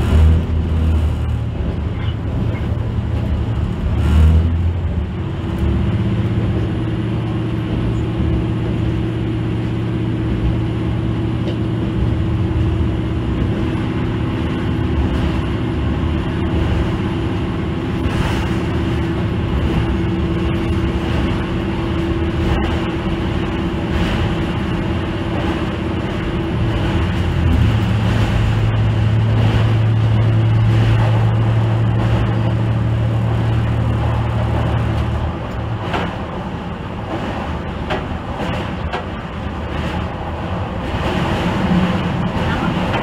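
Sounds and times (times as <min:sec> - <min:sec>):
diesel railcar engine and wheels drone: 0:00.0 - 0:43.0
strong low engine hum: 0:00.0 - 0:43.0.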